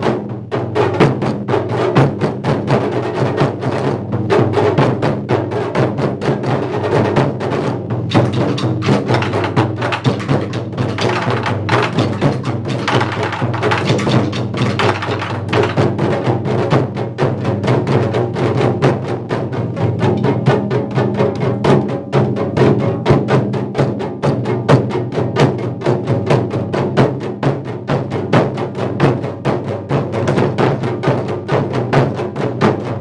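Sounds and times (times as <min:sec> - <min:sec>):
rapid barrel drum strokes: 0:00.0 - 0:33.0.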